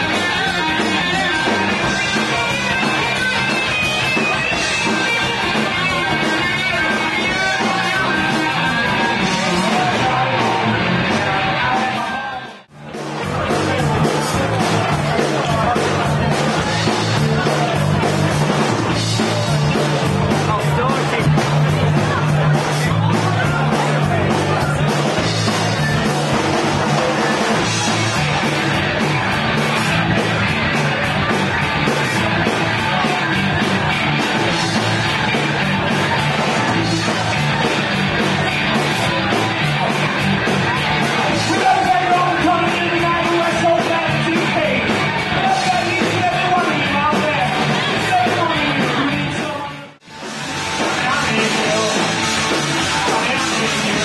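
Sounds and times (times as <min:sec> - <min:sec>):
drums: 0:00.0 - 0:54.0
electric guitar: 0:00.0 - 0:54.0
person singing: 0:00.0 - 0:54.0.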